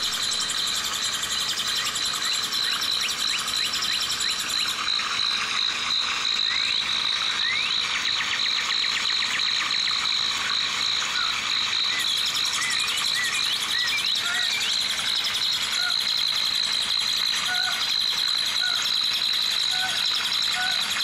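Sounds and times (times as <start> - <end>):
frog-like calls: 0.0 - 21.0
pulsing insect trill: 0.0 - 21.0.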